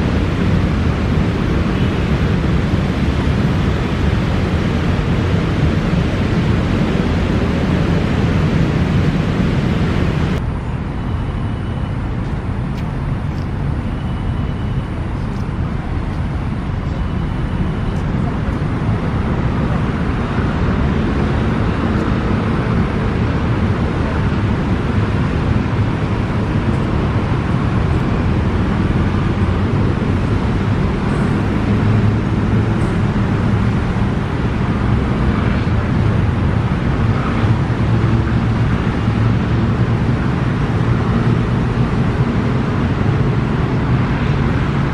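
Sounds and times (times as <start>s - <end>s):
road traffic rumble: 0.0s - 44.9s.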